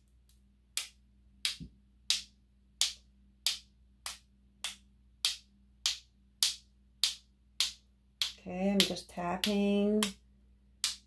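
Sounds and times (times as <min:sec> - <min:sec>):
paintbrush tapping: 0:00.0 - 0:10.2, 0:10.8 - 0:11.0.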